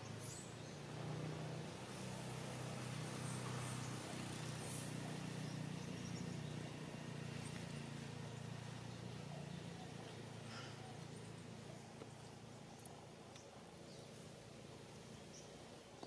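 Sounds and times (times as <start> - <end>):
distant engine hum: 0.0 - 16.0
faint outdoor background hiss: 0.0 - 16.0.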